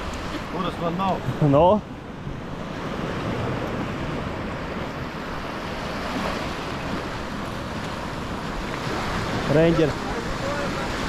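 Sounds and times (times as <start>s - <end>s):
waves washing on sandy shore: 0.0s - 11.0s.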